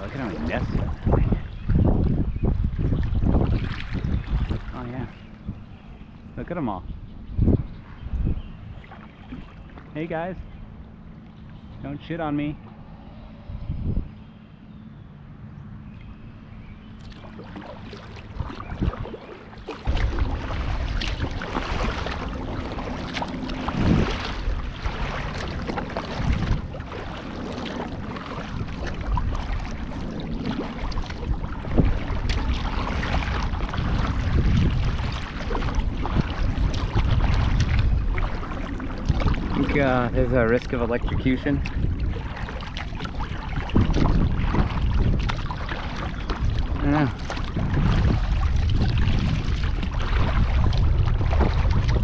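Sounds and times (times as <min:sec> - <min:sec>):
paddle strokes splashing water: 0:00.0 - 0:06.3, 0:07.9 - 0:10.2, 0:16.8 - 0:52.0
wind rumbling on microphone: 0:00.0 - 0:52.0.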